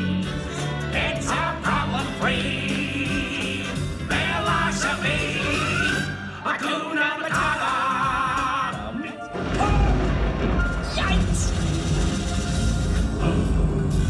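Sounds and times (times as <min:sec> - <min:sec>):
stage show music with singing: 0:00.0 - 0:14.0.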